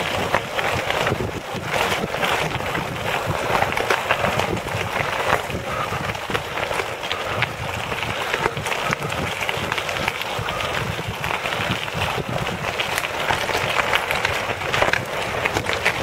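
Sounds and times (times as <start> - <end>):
bike tyres rolling over gravel: 0.0 - 16.0.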